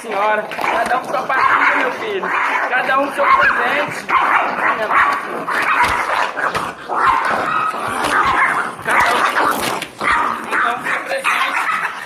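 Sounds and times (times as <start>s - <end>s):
small dogs barking and yelping: 0.0s - 12.0s.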